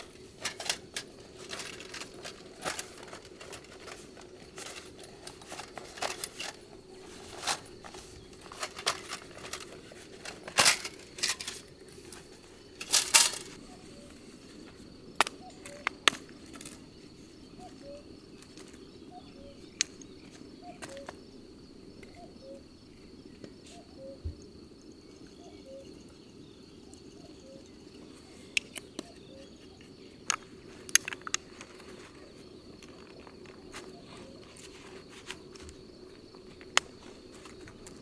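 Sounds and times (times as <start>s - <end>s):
faint insect chirps: 0.0s - 38.0s
insects buzzing: 0.0s - 38.0s.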